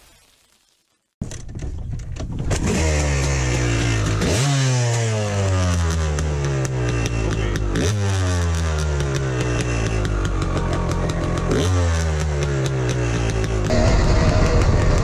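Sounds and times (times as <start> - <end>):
dirt bike engine revving: 2.5 - 15.0.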